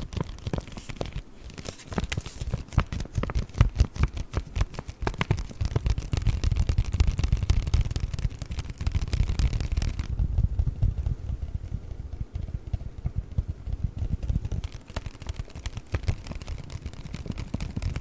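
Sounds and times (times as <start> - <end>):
paper crackles: 0.0 - 11.8, 12.4 - 18.0.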